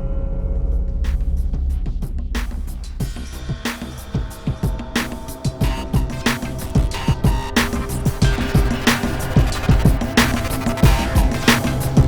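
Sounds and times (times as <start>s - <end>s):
music with bass drum and snare: 1.0s - 12.0s.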